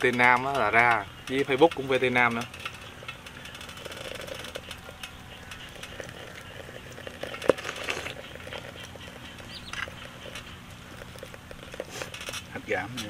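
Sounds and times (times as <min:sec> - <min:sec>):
broth simmering in a metal pot: 0:00.0 - 0:12.6.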